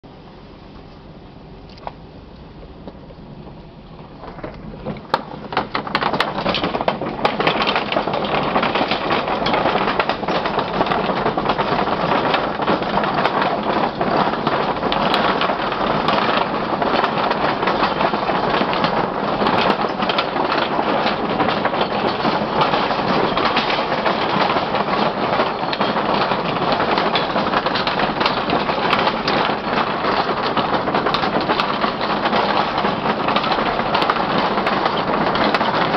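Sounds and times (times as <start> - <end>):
wooden bridge boards clattering: 3.6 - 35.9.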